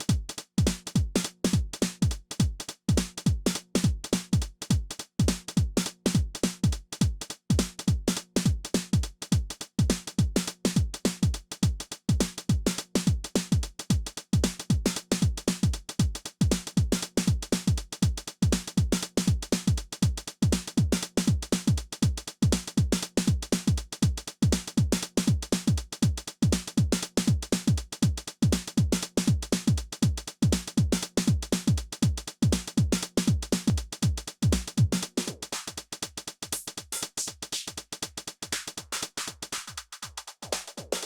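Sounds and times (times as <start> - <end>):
hi-hats and cymbals: 0.0 - 41.0
kick drum: 0.0 - 41.0.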